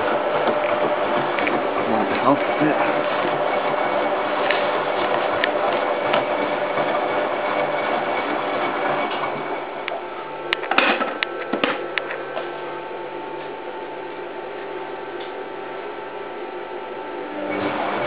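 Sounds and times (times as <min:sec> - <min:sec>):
washing machine drum churning: 0:00.0 - 0:18.0.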